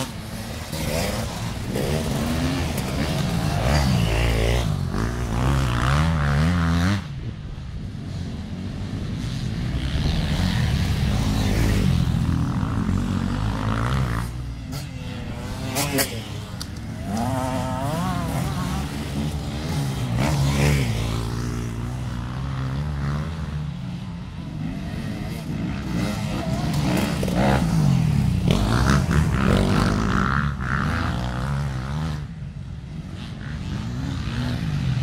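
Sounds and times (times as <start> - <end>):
dirt bikes revving: 0.0 - 35.0.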